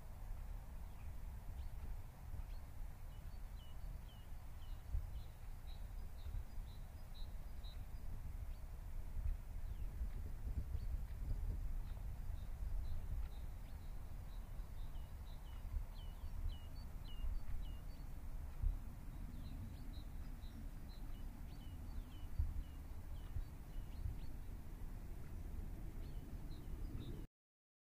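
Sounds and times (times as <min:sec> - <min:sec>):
steady low rumble: 0:00.0 - 0:27.3
small bird chirping: 0:00.8 - 0:27.2.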